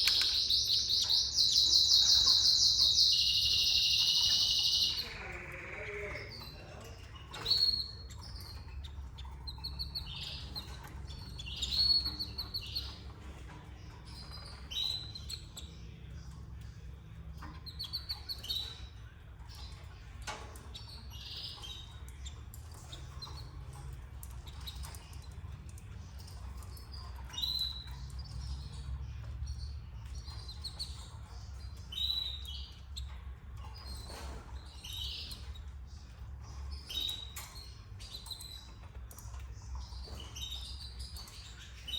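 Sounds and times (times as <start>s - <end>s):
canaries chirping: 0.0s - 41.9s.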